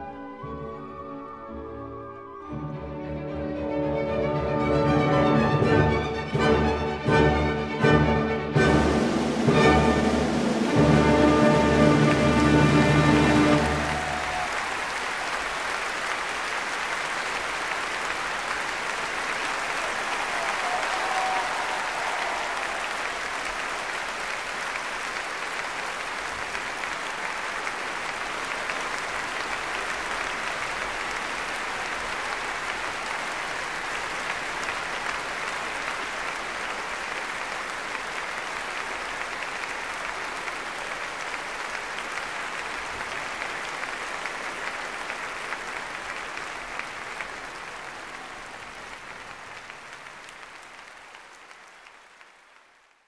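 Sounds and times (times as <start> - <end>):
large audience applauding: 3.5 - 53.0.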